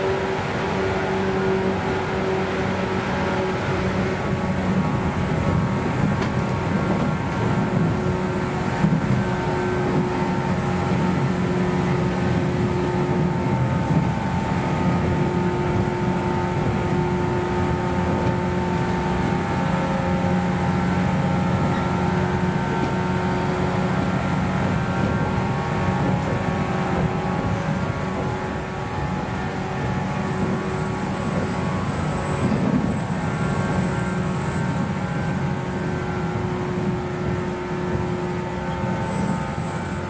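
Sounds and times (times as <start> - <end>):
wheels rumbling on rail: 0.0 - 40.0.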